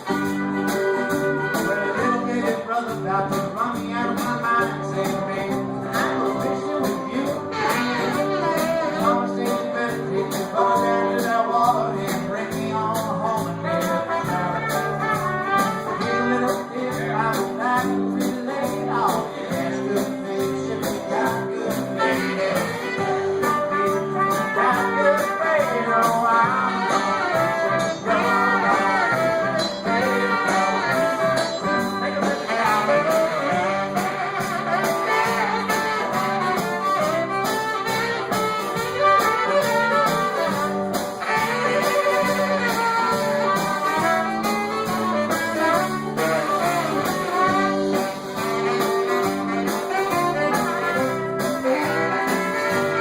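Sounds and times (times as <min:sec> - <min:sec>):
live band playing blues: 0:00.0 - 0:53.0.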